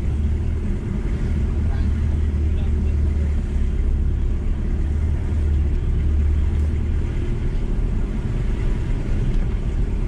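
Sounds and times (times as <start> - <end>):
van engine and road noise: 0.0 - 10.0.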